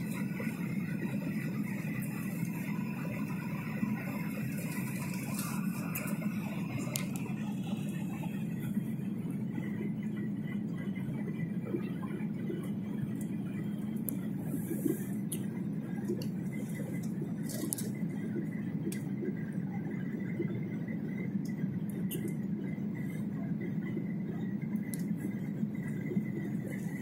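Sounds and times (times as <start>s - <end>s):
airliner cabin engine drone: 0.0s - 27.0s
faint thin whine: 0.0s - 27.0s.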